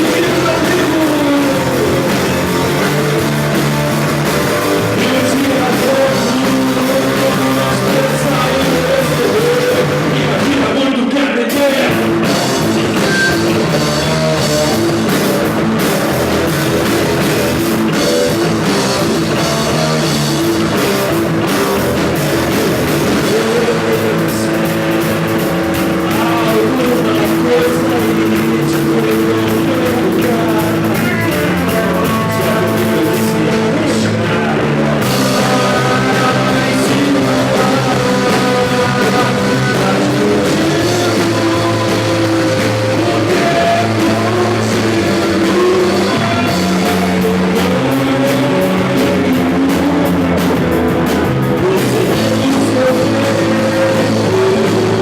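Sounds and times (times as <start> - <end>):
drum kit and cymbals: 0.0 - 55.0
guitars and bass: 0.0 - 55.0.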